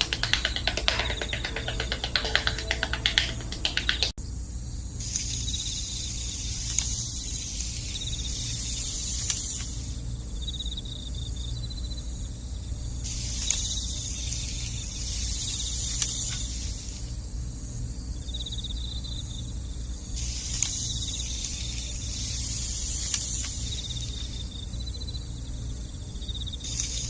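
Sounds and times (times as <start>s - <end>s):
insect chorus: 0.0s - 27.0s
pulsing insect trill: 0.0s - 27.0s.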